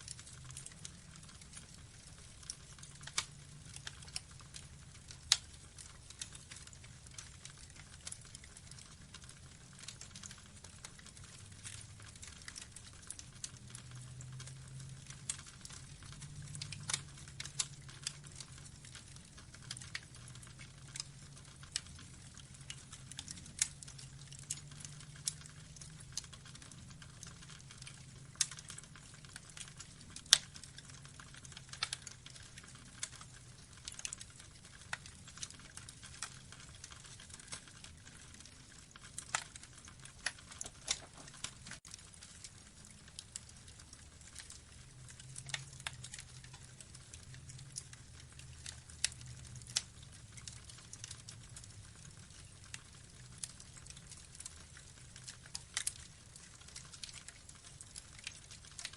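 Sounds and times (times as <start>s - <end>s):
burning logs crackling: 0.0s - 58.9s
low rumble of flames: 0.0s - 58.9s.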